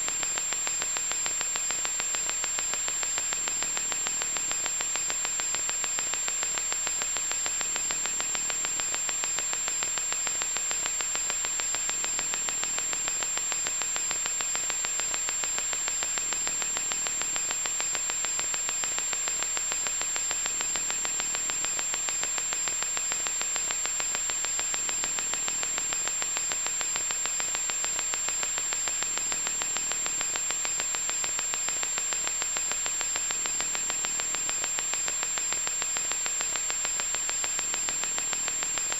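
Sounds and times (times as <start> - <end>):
high steady whine: 0.0 - 38.9
static hiss with crackle: 0.0 - 38.9.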